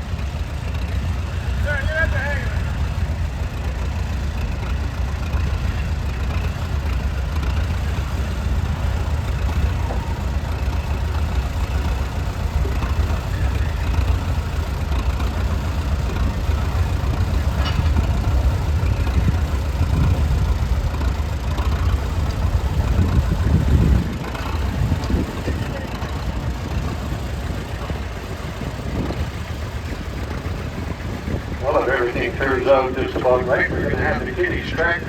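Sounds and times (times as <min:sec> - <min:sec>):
tractor engine rumbling: 0:00.0 - 0:35.0.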